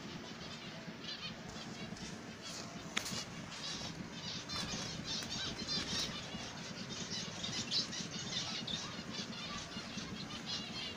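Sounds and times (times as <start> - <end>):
finches chirping: 0.0 - 10.9
low steady hum: 0.0 - 10.9.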